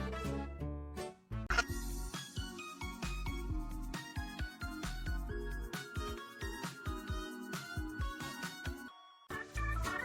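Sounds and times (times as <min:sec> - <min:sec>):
bouncy music with keyboard: 0:00.0 - 0:10.0.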